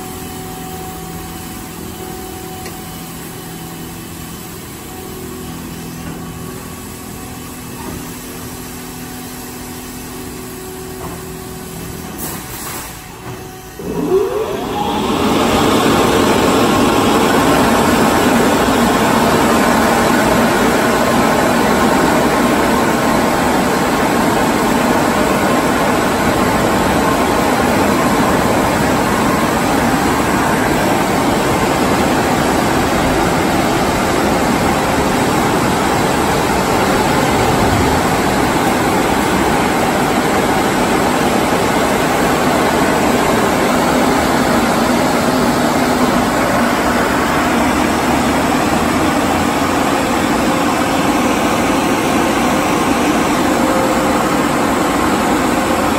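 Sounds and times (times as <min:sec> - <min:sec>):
air rushing from dryers: 0:00.0 - 0:55.9
blower fans humming: 0:00.0 - 0:55.9.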